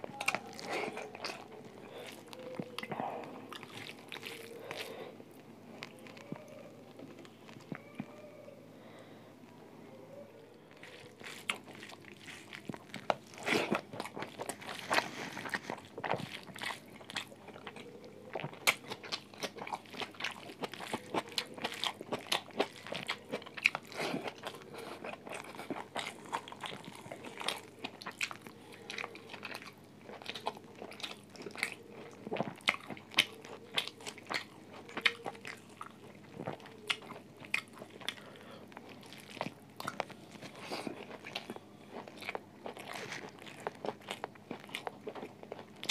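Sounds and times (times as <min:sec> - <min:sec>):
crunching bites and chewing: 0:00.0 - 0:08.2, 0:10.7 - 0:45.9.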